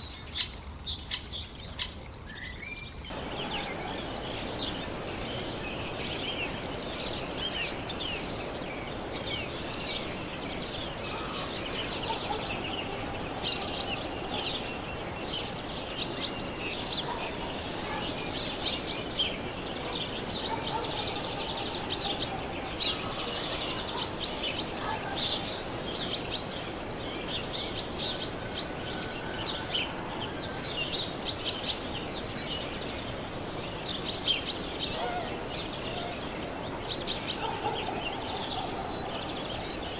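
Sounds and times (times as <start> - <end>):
background hiss: 0.0 - 39.9
small birds chirping: 0.0 - 39.9.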